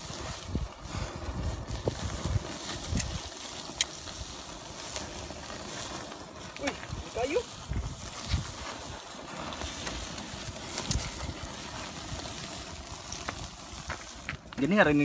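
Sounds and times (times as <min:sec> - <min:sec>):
meat sizzling on a grill: 0:00.0 - 0:15.0
wind buffeting microphone: 0:00.0 - 0:15.0.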